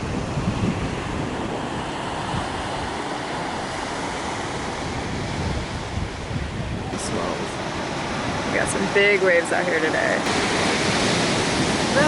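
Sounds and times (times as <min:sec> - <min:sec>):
ocean waves breaking on shore: 0:00.0 - 0:12.0
wind gusting against microphone: 0:00.0 - 0:12.0.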